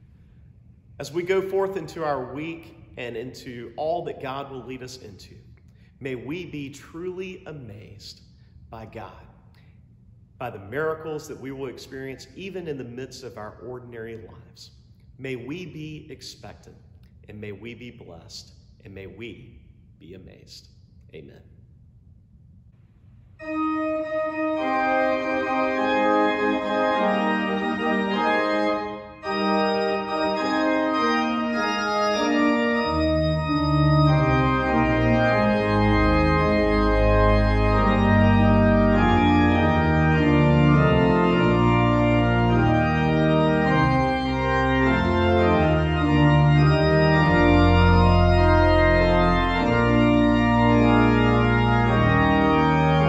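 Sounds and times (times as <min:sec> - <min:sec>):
organ sustained chords: 0:00.0 - 0:21.3, 0:23.1 - 0:53.0.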